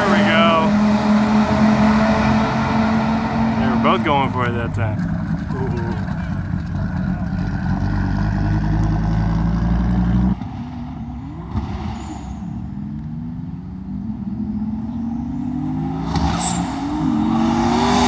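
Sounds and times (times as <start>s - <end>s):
cars accelerating hard: 0.0s - 18.0s
loud car engine running: 0.0s - 18.0s.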